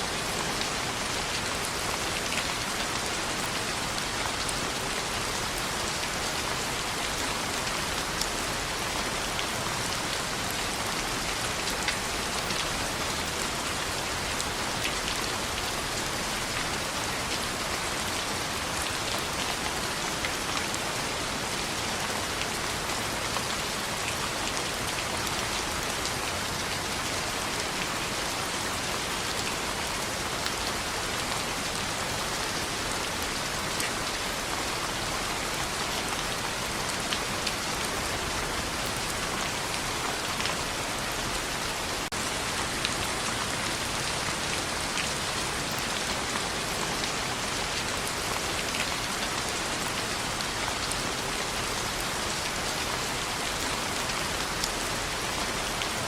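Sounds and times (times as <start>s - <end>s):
rain on a window: 0.0s - 56.0s.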